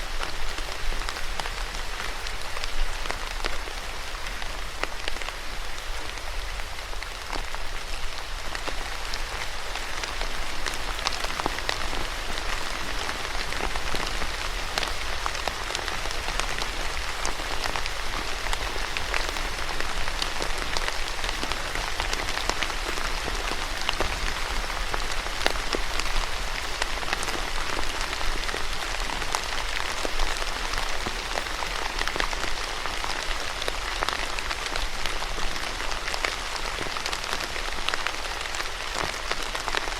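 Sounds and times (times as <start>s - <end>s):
rain on a hard surface: 0.0s - 39.9s
raindrops spattering: 0.0s - 39.9s.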